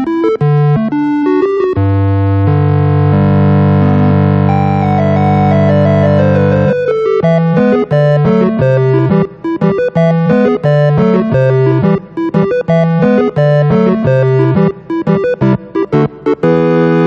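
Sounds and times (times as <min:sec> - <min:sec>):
synthesizer music: 0:00.2 - 0:17.0.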